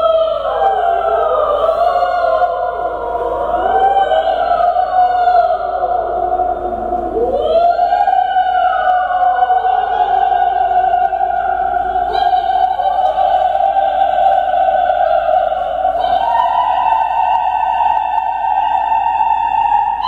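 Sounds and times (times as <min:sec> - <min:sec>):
two voices singing held notes: 0:00.0 - 0:20.0.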